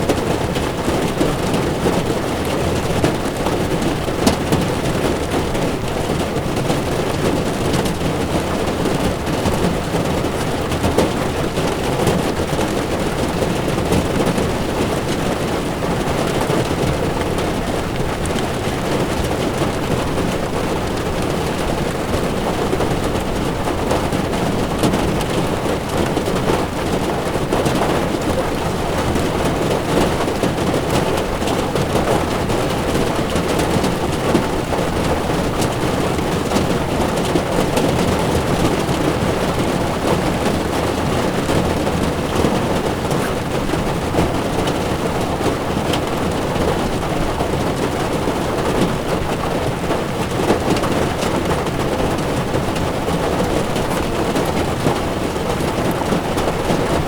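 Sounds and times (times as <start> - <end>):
heavy rain drumming on car: 0.0 - 57.0.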